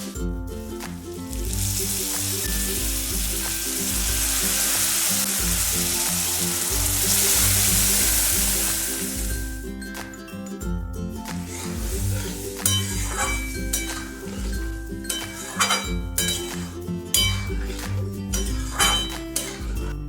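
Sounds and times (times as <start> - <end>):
food sizzling in hot oil: 1.3 - 9.6, 11.3 - 19.8.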